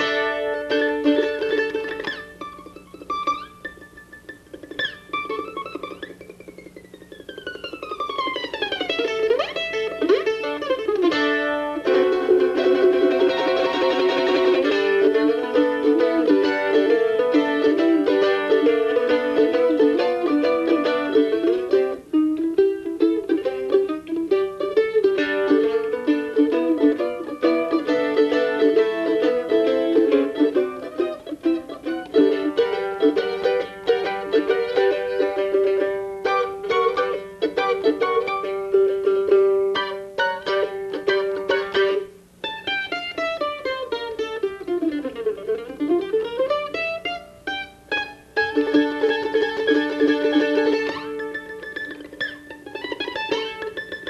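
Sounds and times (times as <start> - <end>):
mandolin picking: 0.0 - 54.0.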